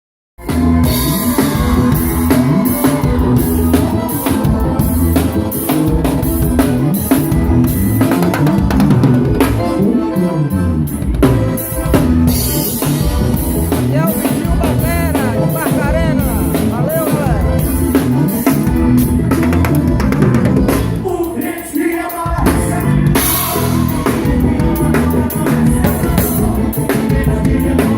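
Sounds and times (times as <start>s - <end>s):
drum kit steady beat: 0.4s - 10.2s, 10.8s - 27.9s
bass line: 0.4s - 21.4s, 22.2s - 27.9s
band playing instrumental: 0.4s - 27.9s.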